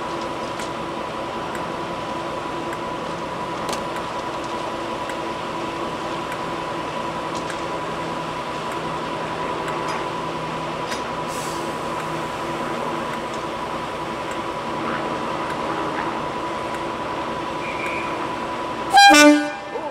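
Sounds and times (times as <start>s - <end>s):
diesel locomotive engine drone: 0.0s - 19.9s.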